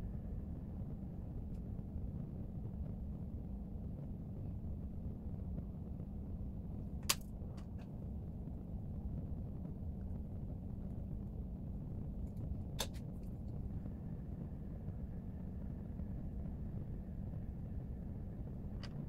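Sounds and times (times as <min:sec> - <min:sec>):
low room rumble: 0:00.0 - 0:19.0.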